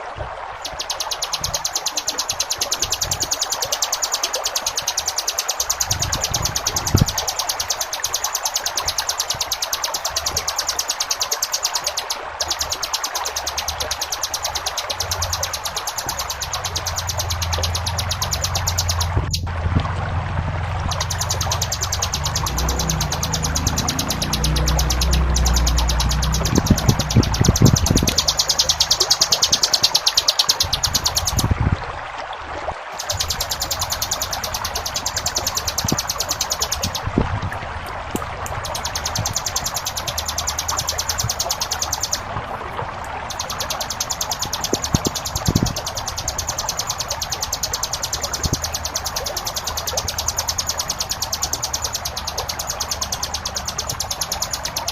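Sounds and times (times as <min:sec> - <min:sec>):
flowing water rushing: 0:00.0 - 0:54.9
bird buzzing trill: 0:00.6 - 0:19.5, 0:20.8 - 0:31.5, 0:33.0 - 0:37.1, 0:38.6 - 0:42.2, 0:43.3 - 0:54.9.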